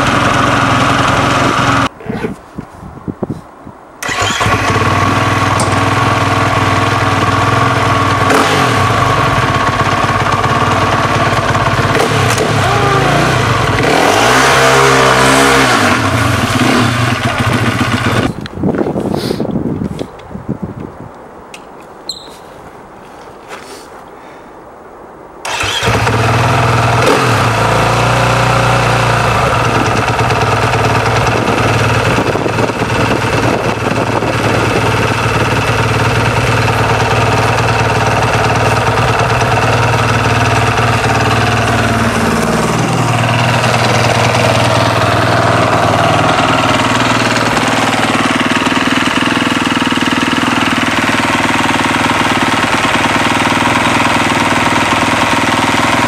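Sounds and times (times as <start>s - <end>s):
motorcycle engine starting and idling: 0.0s - 1.9s, 4.0s - 18.5s, 25.4s - 56.0s.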